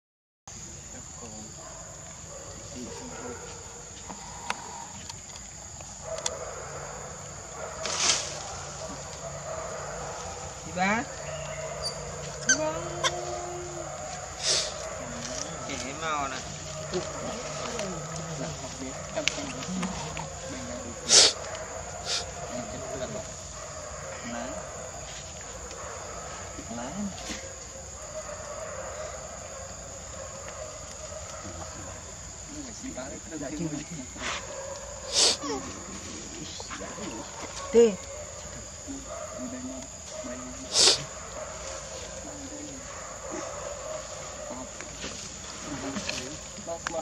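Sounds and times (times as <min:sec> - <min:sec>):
forest insects droning: 0:00.5 - 0:47.0.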